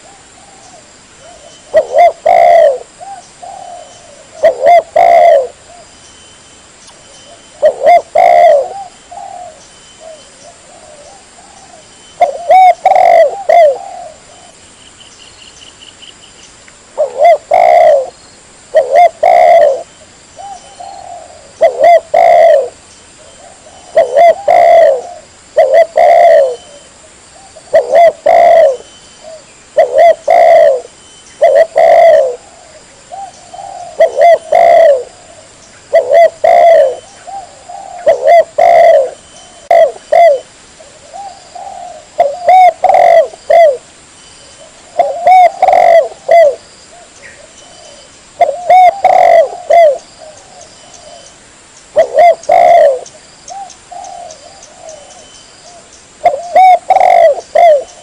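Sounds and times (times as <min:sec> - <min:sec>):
dove cooing: 0:00.0 - 0:05.9, 0:07.3 - 0:14.6, 0:16.9 - 0:43.9, 0:44.6 - 0:58.0.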